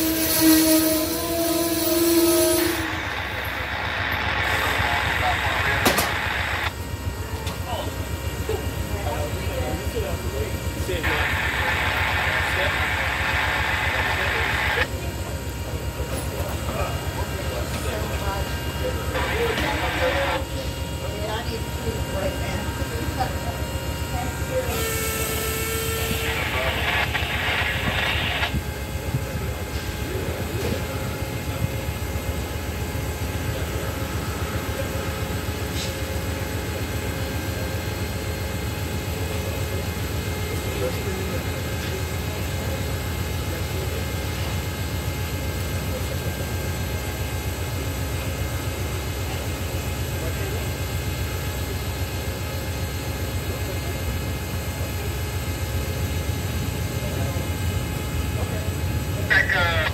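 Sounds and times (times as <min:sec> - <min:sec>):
diesel locomotive idling: 0:00.0 - 0:59.9.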